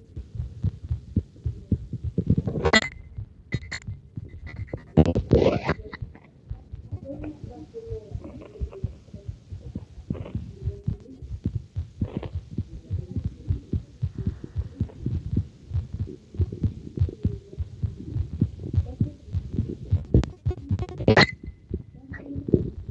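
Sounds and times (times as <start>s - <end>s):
heartbeat through stethoscope: 0.0s - 22.9s.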